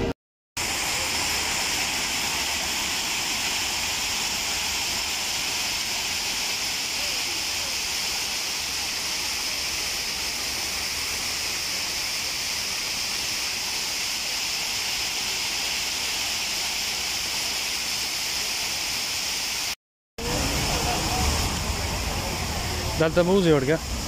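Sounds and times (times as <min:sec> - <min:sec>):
fountain water splashing: 0:00.6 - 0:24.0.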